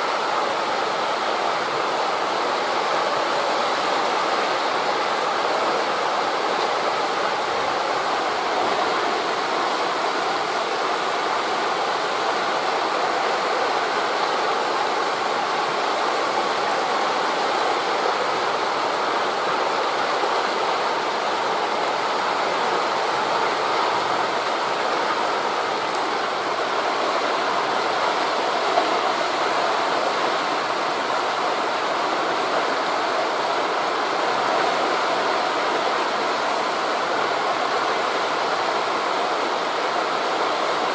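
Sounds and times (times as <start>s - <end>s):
wind through forest leaves: 0.0s - 40.9s.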